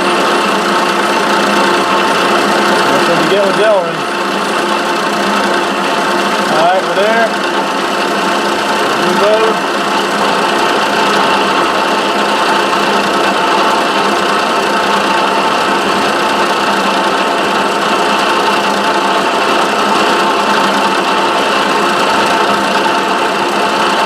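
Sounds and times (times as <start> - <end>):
milling machine cutting plastic: 0.0 - 24.0.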